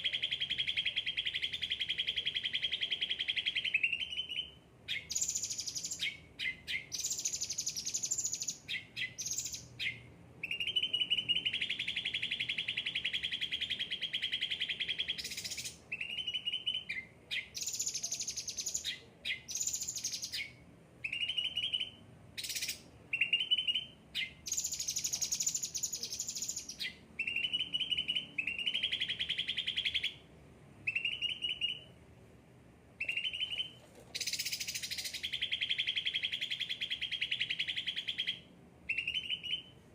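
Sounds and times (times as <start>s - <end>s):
songbird singing trills: 0.0s - 32.0s, 33.0s - 39.9s.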